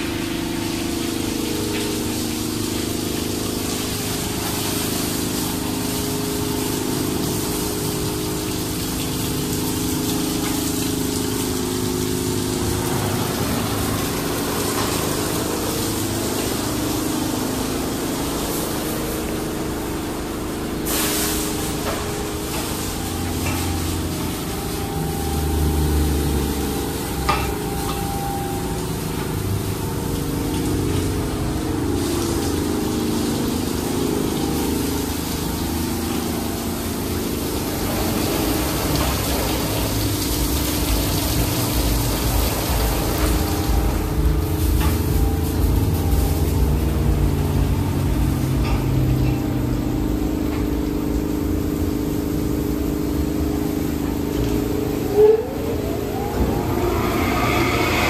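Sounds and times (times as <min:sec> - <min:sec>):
pump machinery hum: 0:00.0 - 0:58.0
water spraying onto car: 0:00.0 - 0:58.0.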